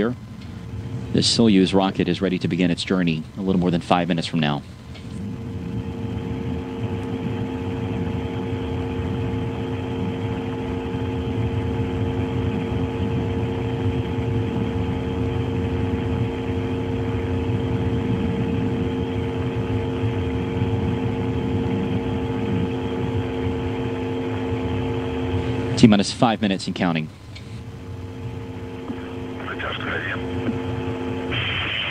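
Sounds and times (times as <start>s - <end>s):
machine hum with constant tones: 0.0s - 31.9s.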